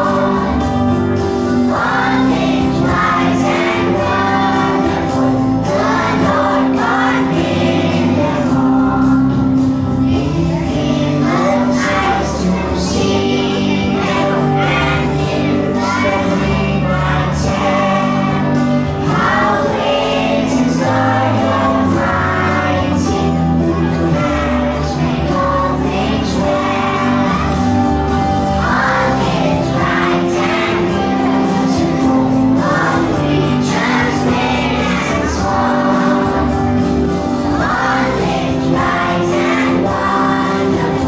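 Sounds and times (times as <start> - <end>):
group singing: 0.0 - 41.0
instrumental backing: 0.0 - 41.0.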